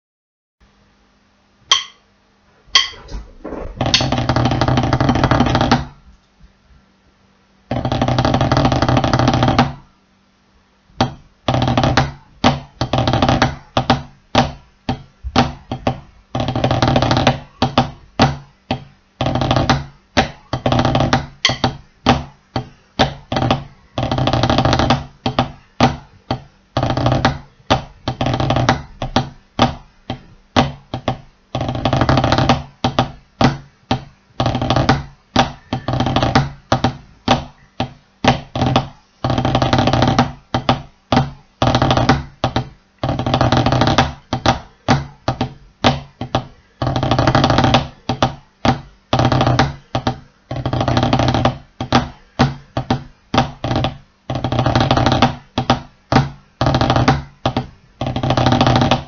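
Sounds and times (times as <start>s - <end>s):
drumsticks on practice pad: 1.7s - 6.2s, 11.0s - 59.0s.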